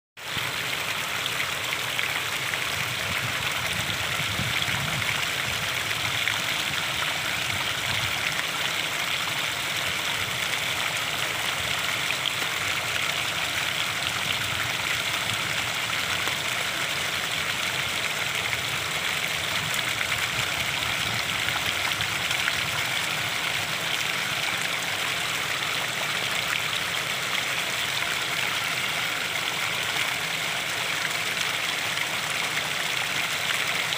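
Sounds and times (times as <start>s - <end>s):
small waterfall splashing: 0.2s - 33.9s.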